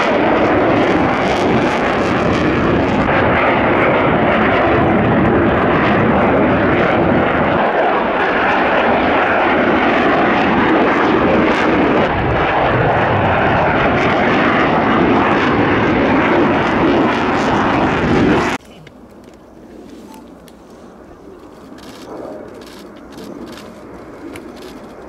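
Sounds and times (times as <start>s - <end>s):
jet flying past: 0.0s - 25.0s.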